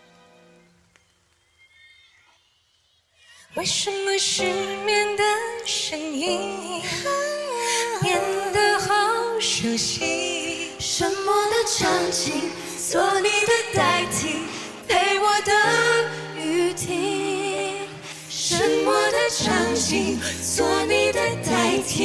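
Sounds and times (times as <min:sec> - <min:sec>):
soft sustained backing music: 0:00.0 - 0:01.7, 0:03.5 - 0:22.0
women singing pop ballad: 0:03.5 - 0:22.0.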